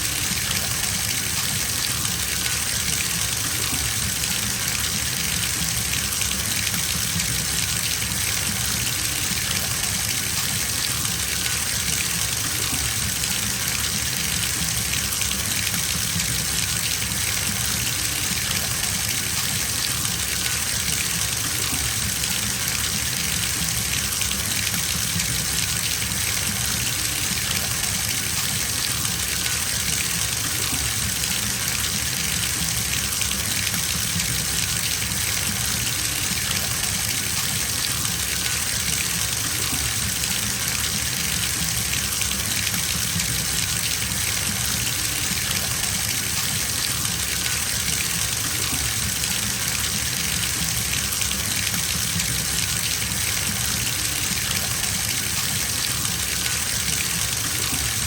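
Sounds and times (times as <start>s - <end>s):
tap water filling bathtub: 0.0s - 58.0s.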